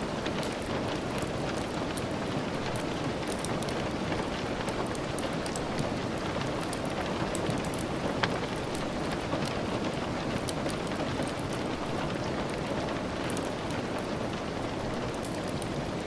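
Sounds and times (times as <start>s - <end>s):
steady rain: 0.0s - 16.0s
wood fire crackling and popping: 0.1s - 16.0s.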